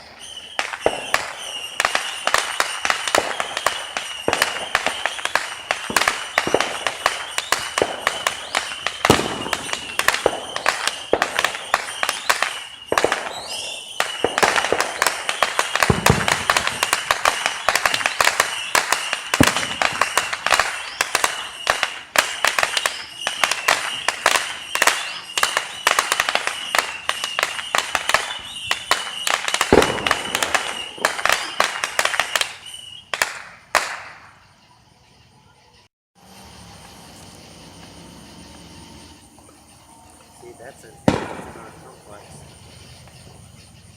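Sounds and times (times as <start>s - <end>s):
fireworks booms: 0.0s - 34.4s, 40.2s - 43.6s
high whistle: 0.0s - 34.5s, 35.8s - 43.7s
fireworks crackling: 0.0s - 34.6s, 36.2s - 43.8s.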